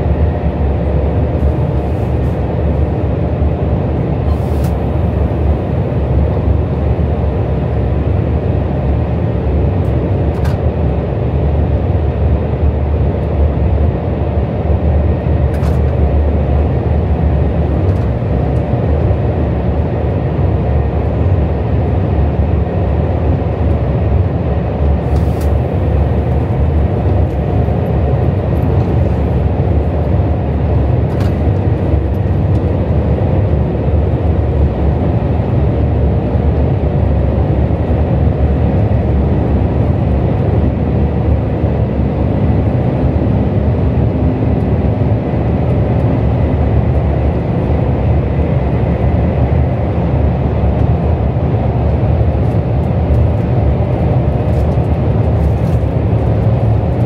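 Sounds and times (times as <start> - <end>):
train rumbling from inside: 0.0 - 57.0.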